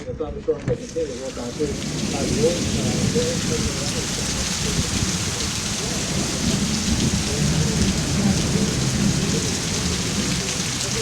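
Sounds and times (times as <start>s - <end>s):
heavy rain pouring: 0.8s - 11.0s
thunder rumbling: 1.0s - 11.0s.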